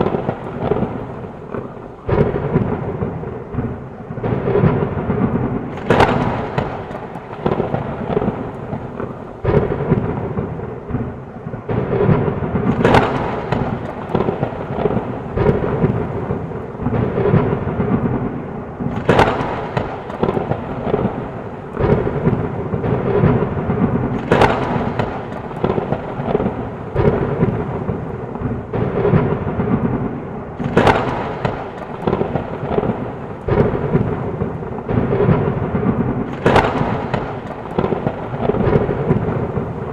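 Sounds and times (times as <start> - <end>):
heavy rain: 0.0 - 39.9
sharp thunderclap: 0.0 - 39.9
thunder rumbling: 0.0 - 39.9.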